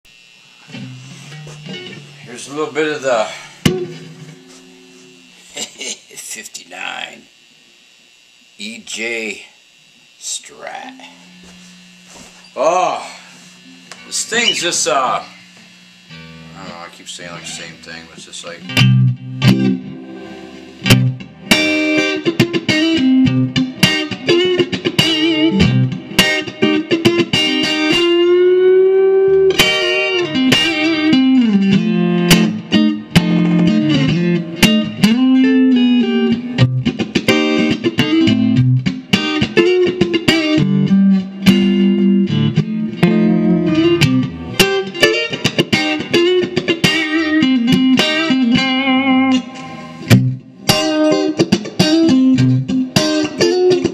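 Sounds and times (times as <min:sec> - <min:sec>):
electric guitar through amplifier: 0:00.1 - 0:53.9.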